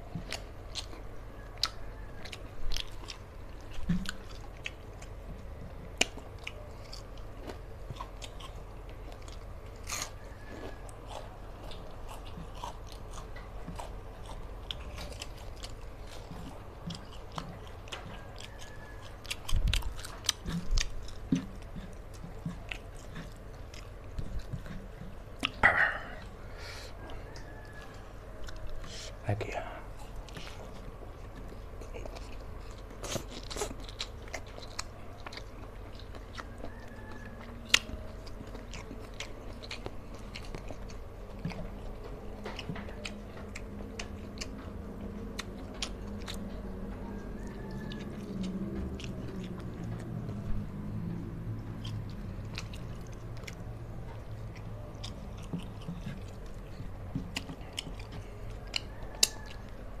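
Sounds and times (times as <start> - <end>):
close chewing with wet mouth clicks: 0.0 - 60.0.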